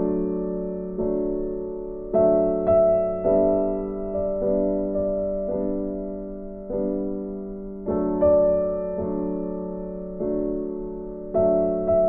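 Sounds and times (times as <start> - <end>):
soft piano notes and chords: 0.0 - 12.0.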